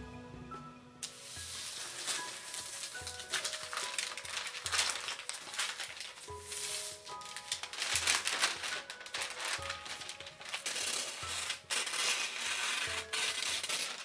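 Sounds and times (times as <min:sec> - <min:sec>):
soft background music: 0:00.0 - 0:14.0
paper rustling: 0:01.0 - 0:14.0
scissors cutting paper: 0:01.0 - 0:14.0.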